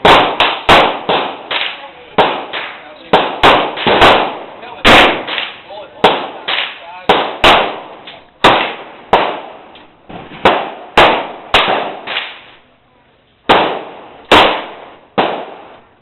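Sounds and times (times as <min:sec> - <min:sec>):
pistol shots echoing: 0:00.0 - 0:09.7, 0:10.4 - 0:12.5, 0:13.5 - 0:15.8.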